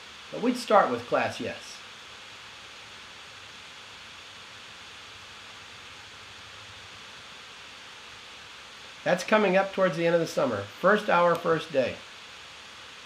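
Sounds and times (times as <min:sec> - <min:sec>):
room tone and microphone hiss: 0:00.0 - 0:13.0.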